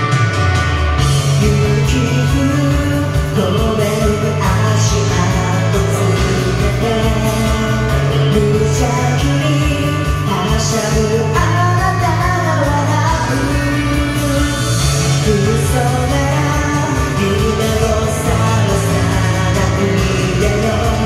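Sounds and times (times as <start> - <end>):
karaoke band backing track: 0.0 - 21.0
man singing karaoke: 1.0 - 21.0.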